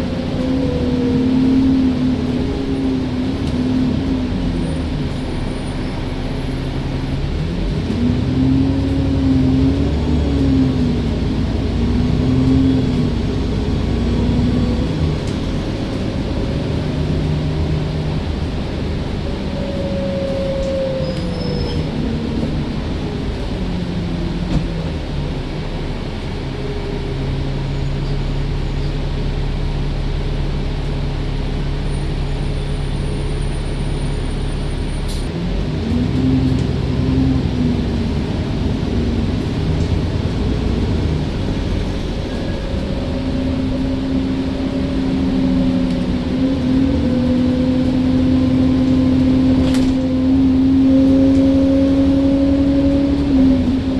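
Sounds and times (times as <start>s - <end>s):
bus diesel engine running: 0.0s - 53.9s.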